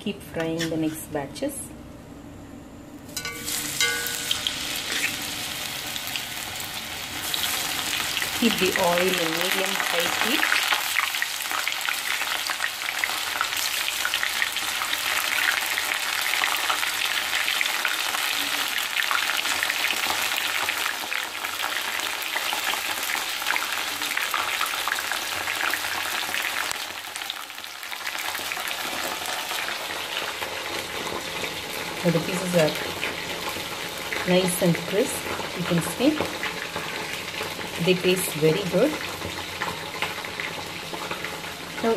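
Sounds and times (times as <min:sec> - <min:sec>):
vegetables deep-frying in oil: 0:03.1 - 0:41.9.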